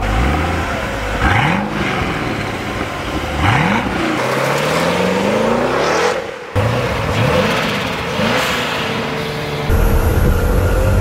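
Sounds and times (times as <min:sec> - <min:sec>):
sports car engine revving: 0:00.0 - 0:11.0.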